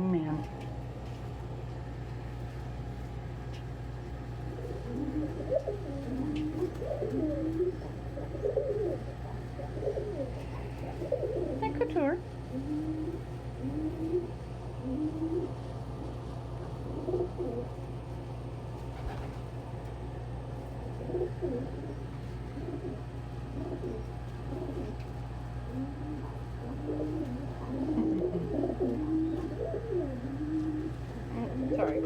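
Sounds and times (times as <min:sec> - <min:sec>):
low hum: 0:00.0 - 0:31.9
pigeons cooing: 0:04.0 - 0:19.8, 0:20.5 - 0:32.0.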